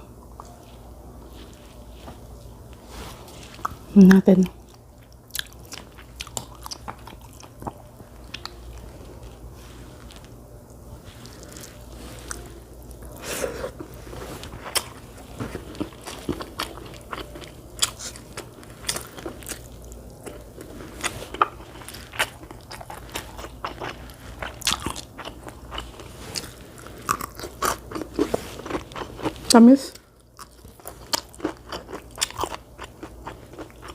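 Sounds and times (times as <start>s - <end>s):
person chewing crunchy food: 3.3s - 33.9s.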